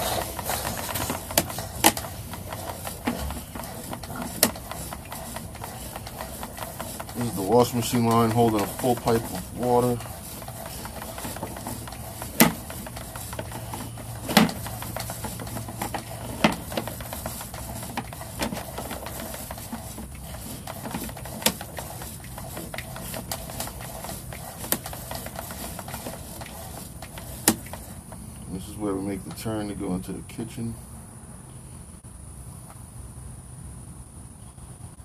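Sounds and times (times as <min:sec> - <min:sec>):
sharp clicks and knocks: 0:00.0 - 0:28.2.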